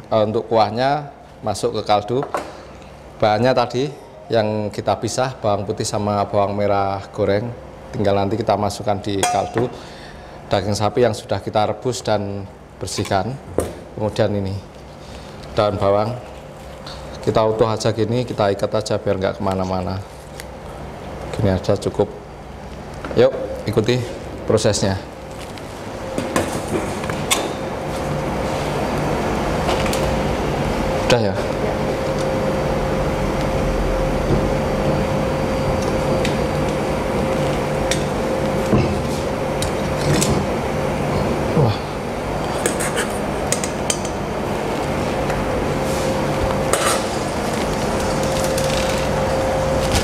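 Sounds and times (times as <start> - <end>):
cooktop hiss and hum: 0.0 - 50.0.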